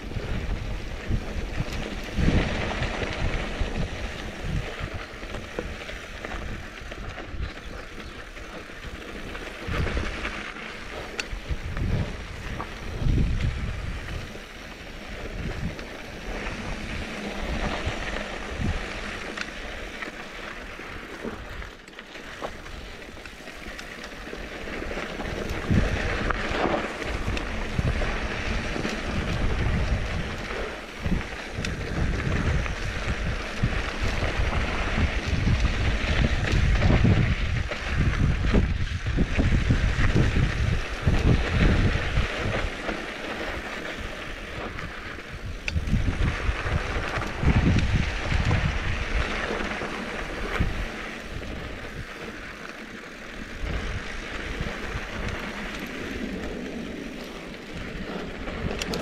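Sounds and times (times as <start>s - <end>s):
wind buffeting microphone: 0.0s - 21.7s, 22.4s - 59.0s
bike clicks and rattles: 0.0s - 59.0s
tyres crunching on gravel: 0.0s - 59.0s.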